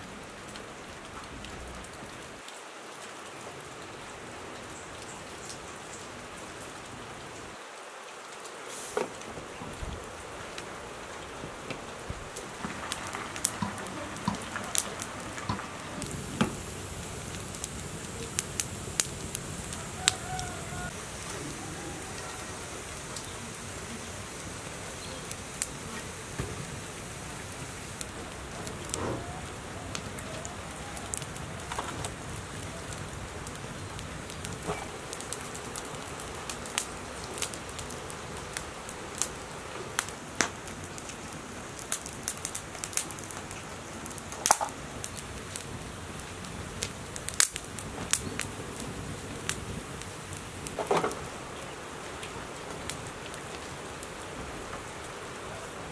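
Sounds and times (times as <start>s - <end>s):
wood fire crackling and popping: 8.4s - 55.9s.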